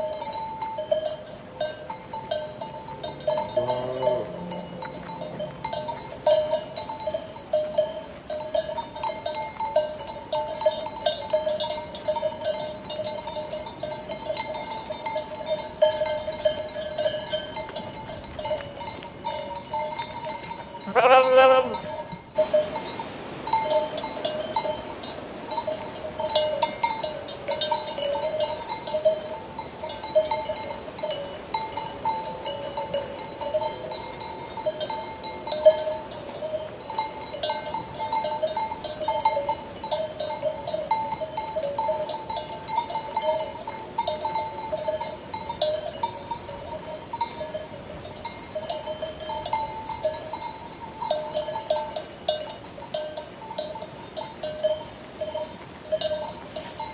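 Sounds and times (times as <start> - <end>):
sheep bells clanking: 0.0 - 56.9.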